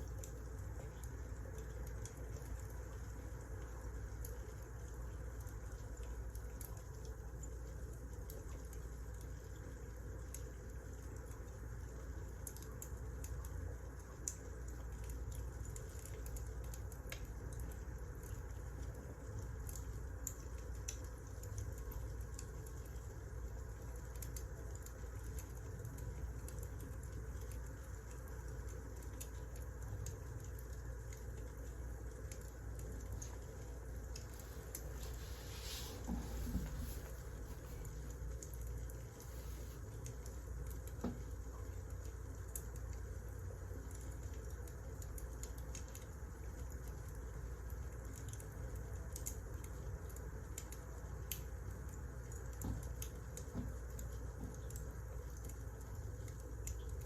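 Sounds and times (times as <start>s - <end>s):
low steady rumble: 0.0s - 57.0s
wood fire crackling: 0.0s - 57.0s.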